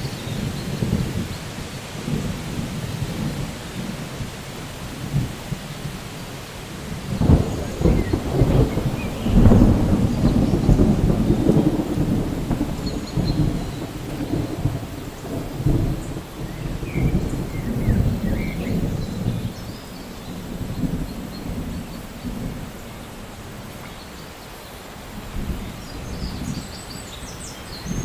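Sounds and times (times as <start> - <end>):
thunder rumbling: 0.0 - 23.9
rain falling: 0.0 - 28.0.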